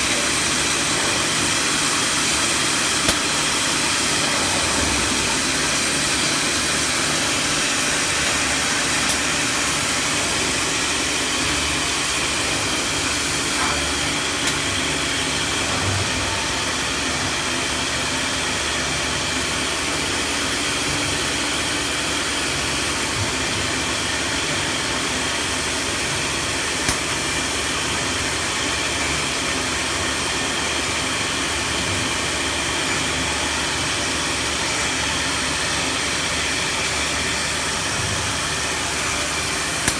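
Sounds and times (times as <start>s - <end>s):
cnc router running: 0.0s - 39.9s.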